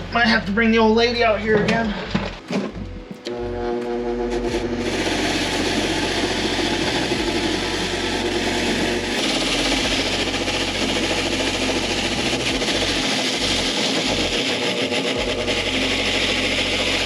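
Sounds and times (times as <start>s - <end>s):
tool rasping and rubbing: 1.6s - 17.0s.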